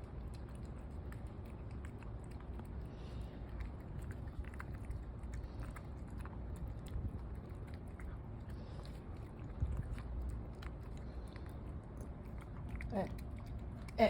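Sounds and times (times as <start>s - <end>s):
cat crunching food: 0.0s - 14.0s.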